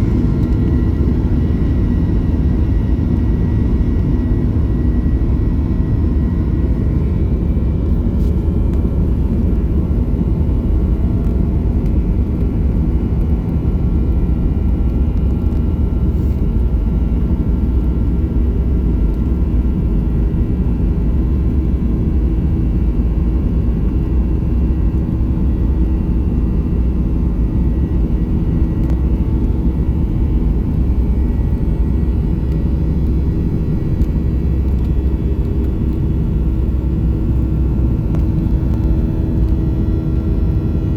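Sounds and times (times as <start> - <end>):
jet engine drone: 0.0 - 40.9.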